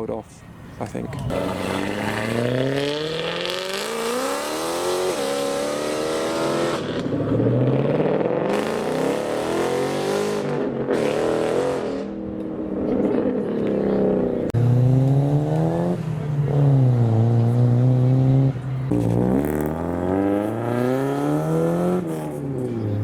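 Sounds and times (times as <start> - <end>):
car engine accelerating hard: 1.3 - 23.0.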